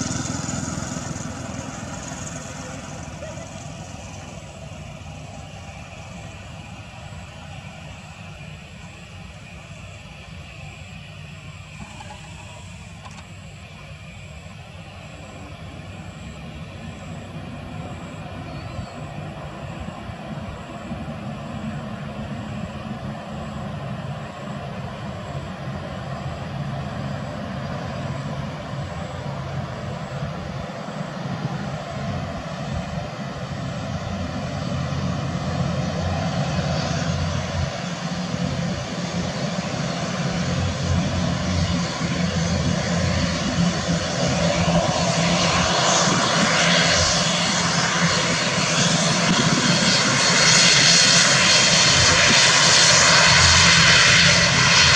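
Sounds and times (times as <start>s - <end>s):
turboprop engines whining: 0.0s - 54.9s.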